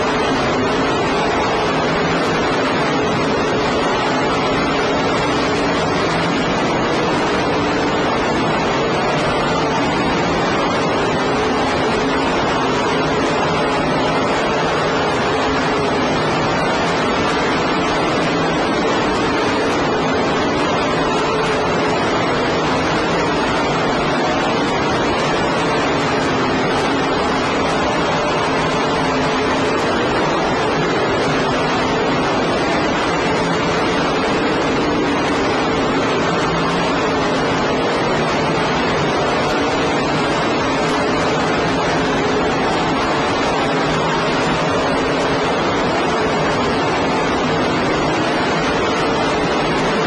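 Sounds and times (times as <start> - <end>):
distorted noise: 0.0 - 50.0.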